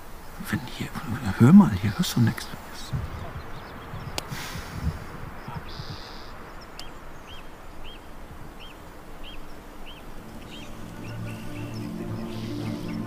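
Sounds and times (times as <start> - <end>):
bird chirping: 0.0 - 13.0
faint steady hiss: 0.0 - 13.0.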